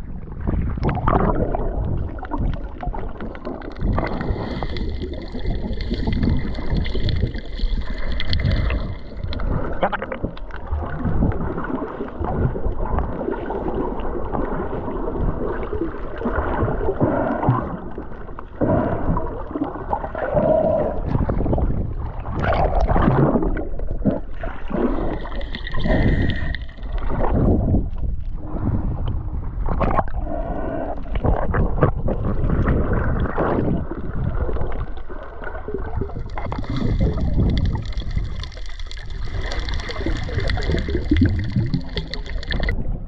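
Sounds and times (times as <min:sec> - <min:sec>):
gurgles and bubbles: 0:00.0 - 0:43.0
underwater churning water: 0:00.0 - 0:43.0.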